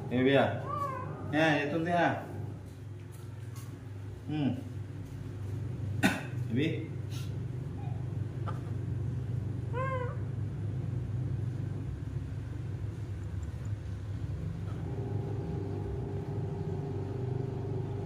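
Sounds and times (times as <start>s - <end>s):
low machine rumble: 0.0s - 18.0s
steady hum: 0.0s - 18.0s.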